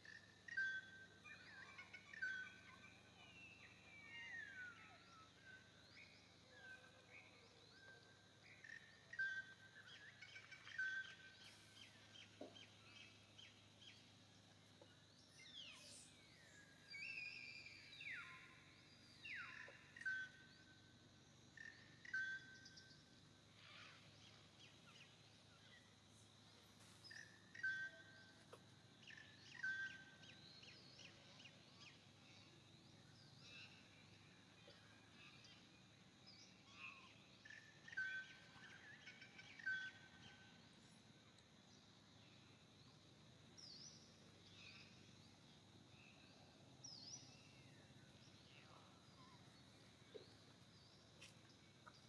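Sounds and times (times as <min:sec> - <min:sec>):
faint bird chirps and whistles: 0:00.0 - 0:20.9, 0:21.5 - 0:41.0, 0:41.7 - 0:52.0.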